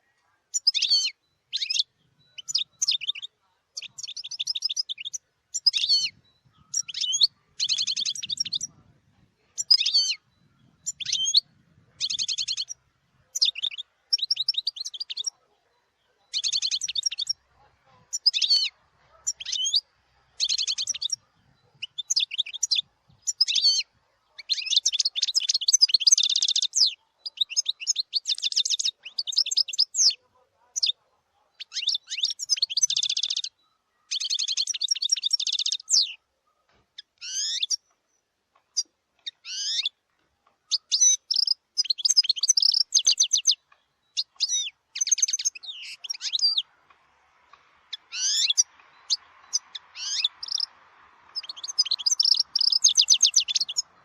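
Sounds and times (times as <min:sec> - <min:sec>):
goldfinch singing: 0:00.0 - 0:36.2, 0:37.0 - 0:54.0.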